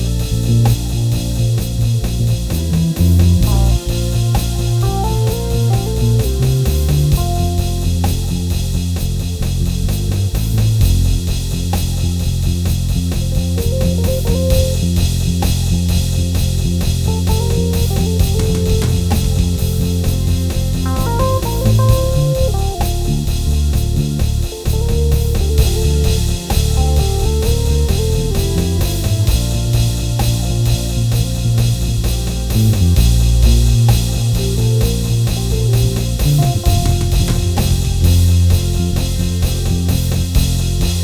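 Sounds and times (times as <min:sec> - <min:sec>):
keyboard chords and melody: 0:00.0 - 0:11.4, 0:13.4 - 0:41.0
heavy bass line: 0:00.0 - 0:41.0
steady drum beat: 0:00.0 - 0:41.0.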